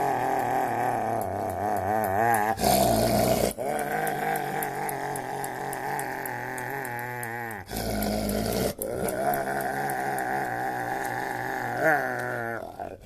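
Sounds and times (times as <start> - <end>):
dog growling wavering: 0.0 - 13.0.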